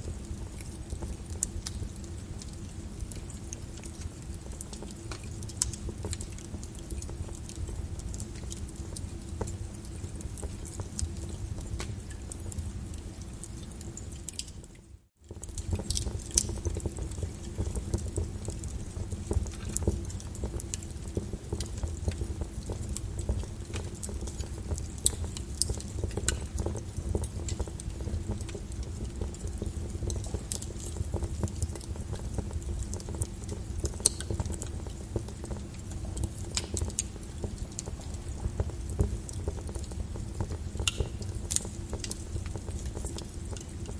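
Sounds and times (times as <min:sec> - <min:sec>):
rain pattering: 0:00.0 - 0:43.9
wood fire crackling: 0:00.0 - 0:43.9.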